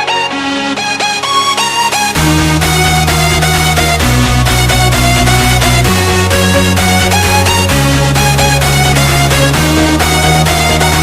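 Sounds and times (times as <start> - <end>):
electronic music with sliding notes: 0.0 - 11.0
deep bass: 2.2 - 11.0.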